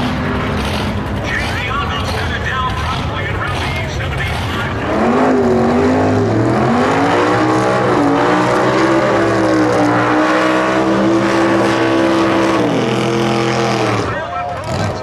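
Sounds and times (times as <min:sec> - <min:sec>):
car engine at full throttle: 0:00.0 - 0:15.0.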